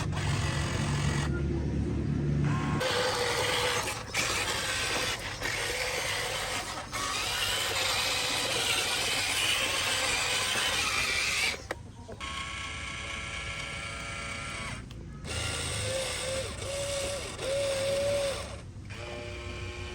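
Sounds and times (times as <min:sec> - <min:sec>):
small electric motors whining: 0:00.0 - 0:01.4, 0:02.4 - 0:19.9.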